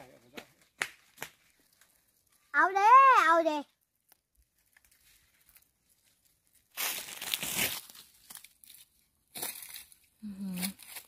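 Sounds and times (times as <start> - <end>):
leaves crackling and rustling: 0.2 - 11.0.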